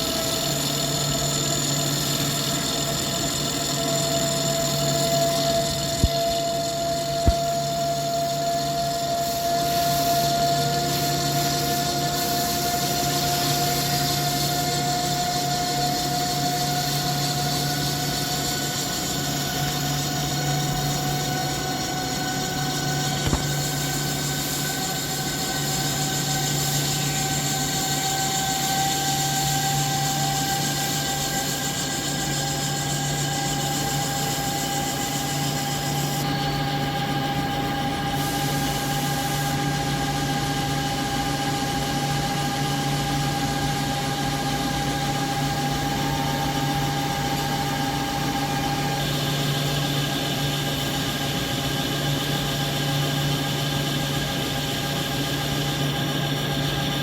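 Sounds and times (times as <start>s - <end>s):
lathe humming: 0.0s - 57.0s
machine whine: 0.0s - 57.0s.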